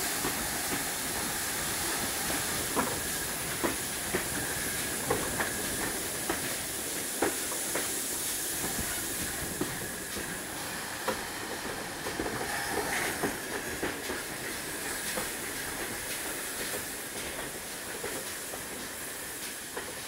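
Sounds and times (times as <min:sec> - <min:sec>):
steam hissing: 0:00.0 - 0:20.0
train wheels clicking on rails: 0:00.0 - 0:20.0.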